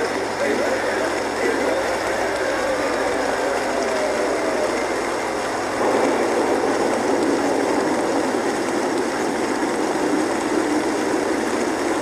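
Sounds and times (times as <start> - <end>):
heavy rain rushing: 0.0 - 12.0.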